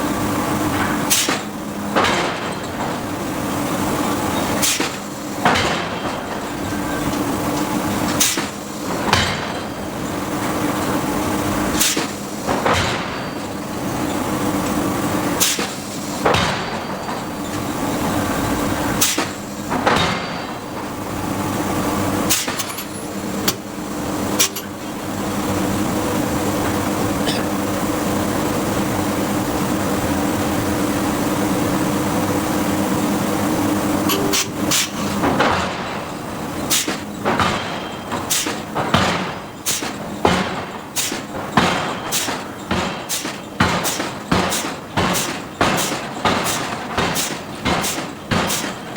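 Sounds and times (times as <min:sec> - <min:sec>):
machinery hum: 0:00.0 - 0:48.9.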